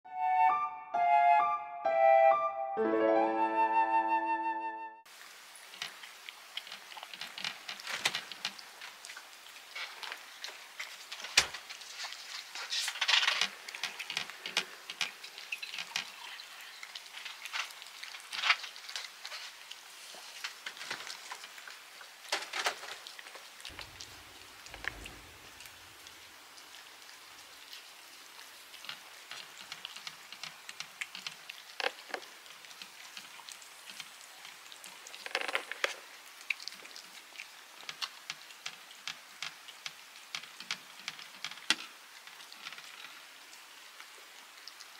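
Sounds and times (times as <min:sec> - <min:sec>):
cats eating with wet chewing: 0:05.1 - 0:44.9.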